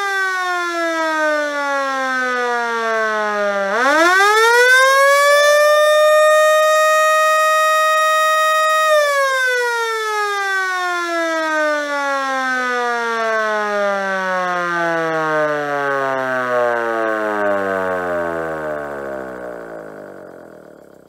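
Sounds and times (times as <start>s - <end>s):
electric siren winding down: 0.0s - 21.0s.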